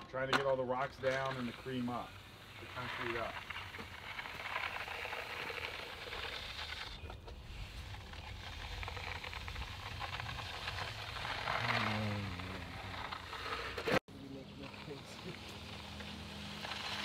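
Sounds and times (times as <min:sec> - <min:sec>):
float scraping wet concrete: 0:00.0 - 0:17.0.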